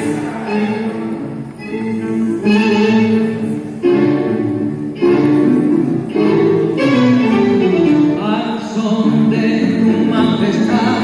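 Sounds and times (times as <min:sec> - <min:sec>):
tango music with singer: 0:00.0 - 0:11.0.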